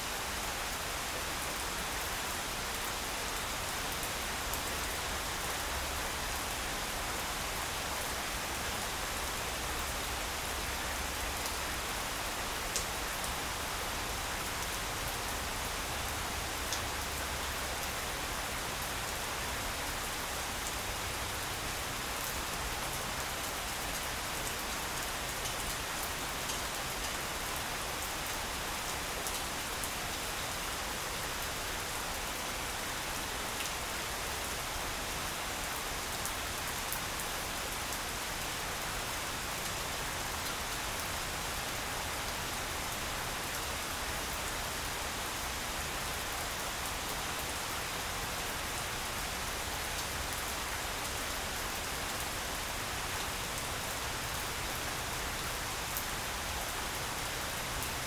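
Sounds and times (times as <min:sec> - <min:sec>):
rain falling on grass: 0:00.0 - 0:58.0.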